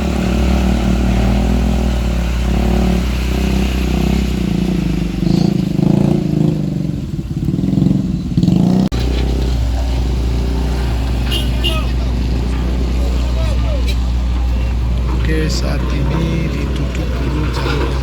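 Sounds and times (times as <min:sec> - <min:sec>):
vehicle engines droning: 0:00.0 - 0:18.0.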